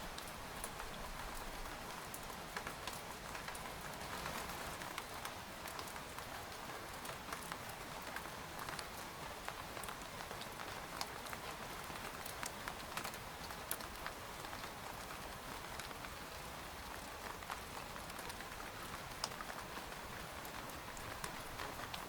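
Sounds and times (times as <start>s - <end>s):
rain pattering on tent fabric: 0.0s - 22.0s.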